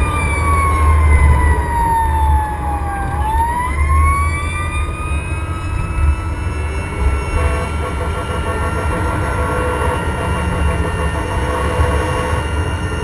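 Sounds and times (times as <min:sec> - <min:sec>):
fire engine siren wailing: 0:00.0 - 0:13.0.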